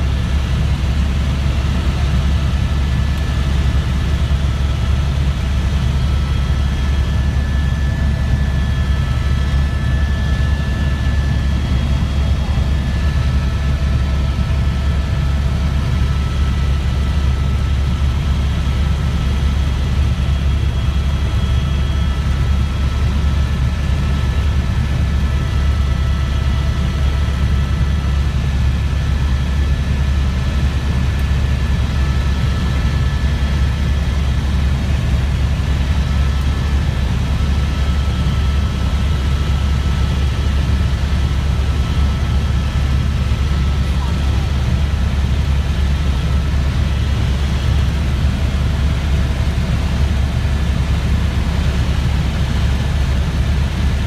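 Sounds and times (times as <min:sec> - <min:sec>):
helicopter low drone: 0:00.0 - 0:54.0
turbine whine: 0:00.0 - 0:54.0.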